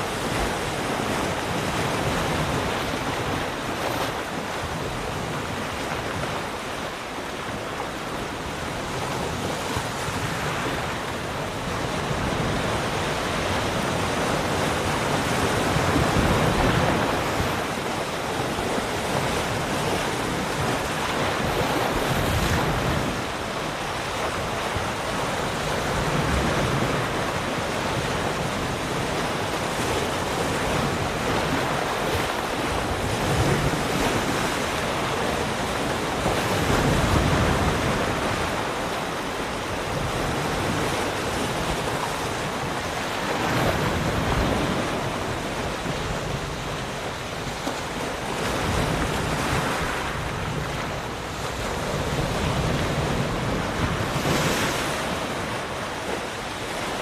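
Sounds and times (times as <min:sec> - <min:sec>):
ocean waves breaking on shore: 0:00.0 - 0:57.0
wind noise on microphone: 0:00.0 - 0:57.0.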